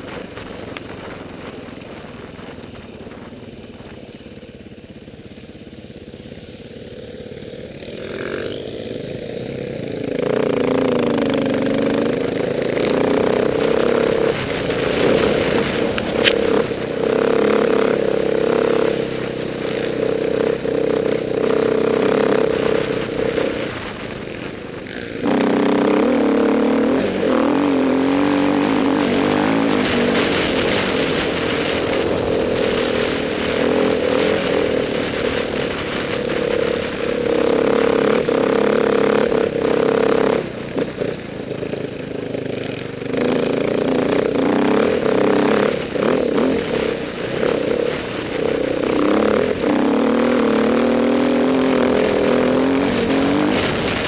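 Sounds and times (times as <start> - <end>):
dirt bike engine revving: 5.5 - 54.0.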